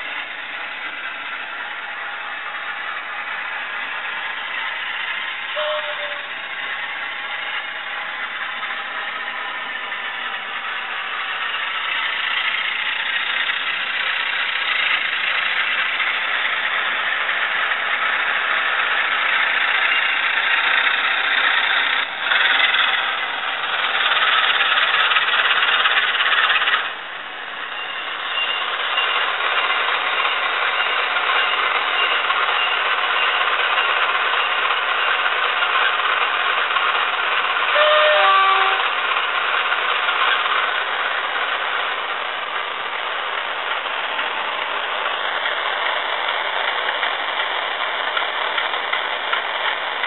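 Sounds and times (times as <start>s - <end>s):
thin simulated diesel engine: 0.0s - 50.0s.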